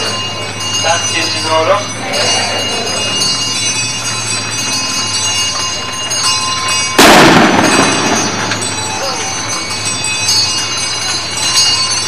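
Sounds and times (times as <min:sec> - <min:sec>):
crowd walking: 0:00.0 - 0:12.0
small bells jingling: 0:00.0 - 0:12.0.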